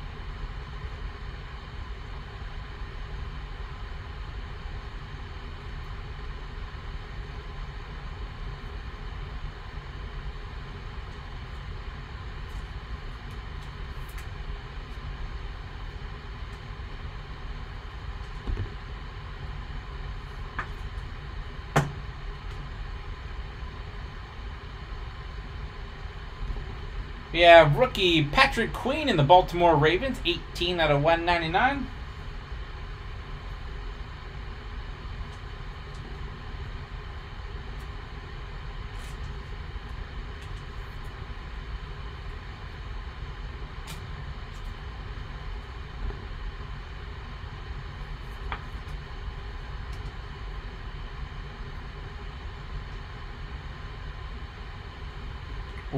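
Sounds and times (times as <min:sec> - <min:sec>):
low background hum: 0:00.0 - 0:55.9.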